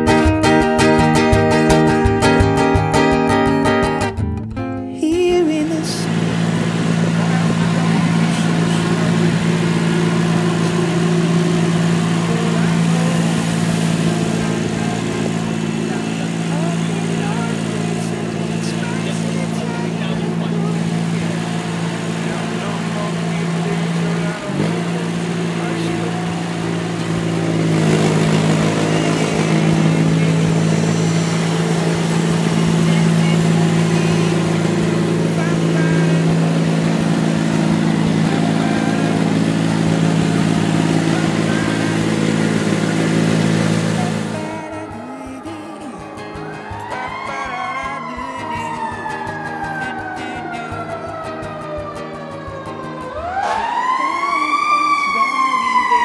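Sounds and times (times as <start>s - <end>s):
street sweeper humming: 0.0s - 56.0s.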